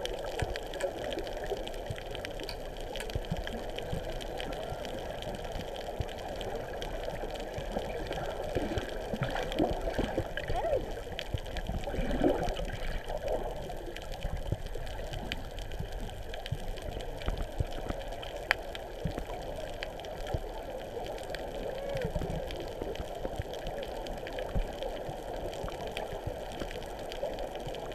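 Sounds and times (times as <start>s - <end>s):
muffled underwater water wash: 0.0s - 27.9s
water gurgles: 0.0s - 27.9s.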